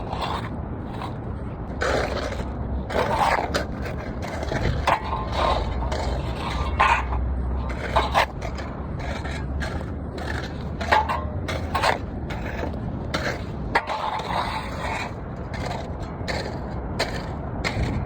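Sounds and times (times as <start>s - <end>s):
scraping on a hard surface: 0.0s - 18.0s.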